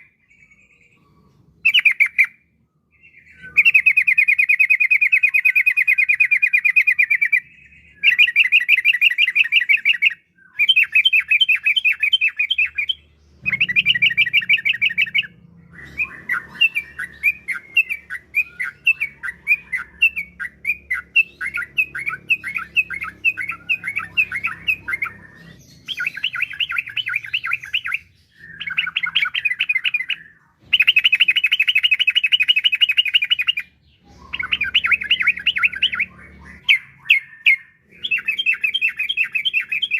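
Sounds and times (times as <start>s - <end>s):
bulbul singing rolling chatter: 0.0s - 39.9s.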